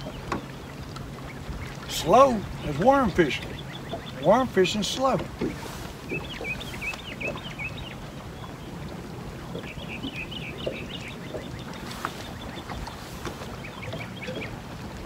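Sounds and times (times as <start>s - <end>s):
birds chirping: 0.0s - 15.0s
water around a boat: 0.0s - 15.0s.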